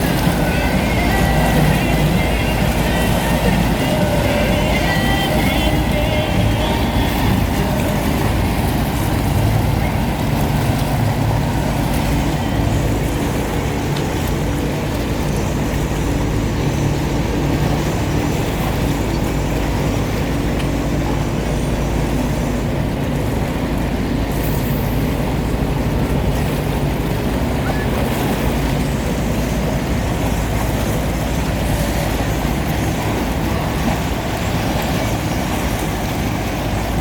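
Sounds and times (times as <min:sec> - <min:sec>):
engine humming: 0:00.0 - 0:37.0
outdoor noise: 0:00.0 - 0:37.0.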